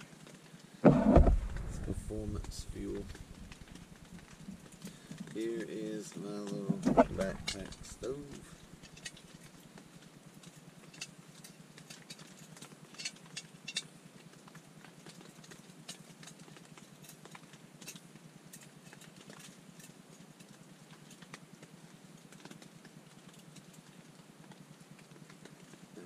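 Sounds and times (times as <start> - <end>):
rain tapping on tent: 0.0 - 26.0.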